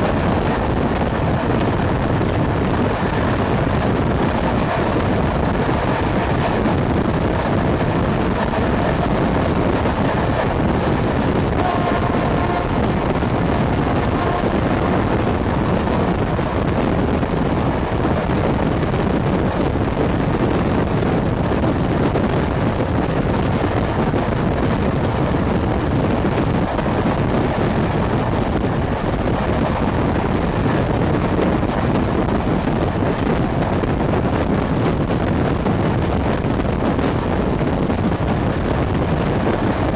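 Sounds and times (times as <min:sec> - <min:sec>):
rush of wind: 0:00.0 - 0:39.9
train carriage rolling noise: 0:00.0 - 0:39.9
wind on microphone: 0:00.0 - 0:39.9.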